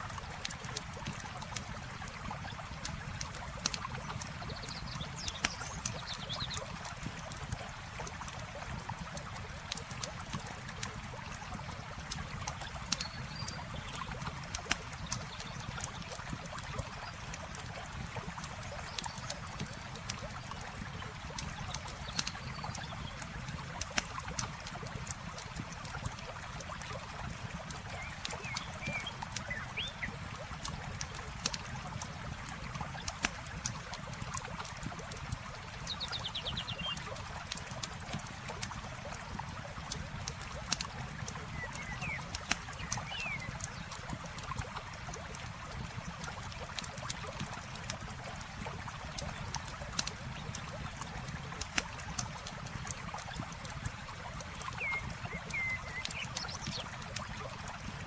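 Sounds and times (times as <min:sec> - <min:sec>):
campfire crackling and popping: 0:00.0 - 0:36.0, 0:37.0 - 0:58.0
flowing water: 0:00.0 - 0:58.0.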